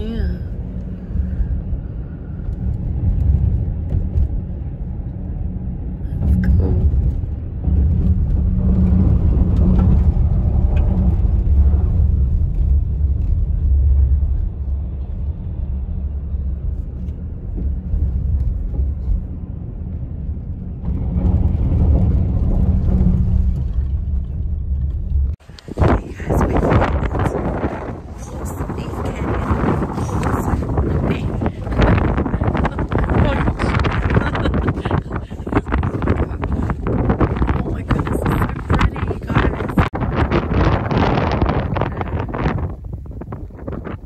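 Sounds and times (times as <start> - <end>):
car road noise rumble: 0.0 - 44.0.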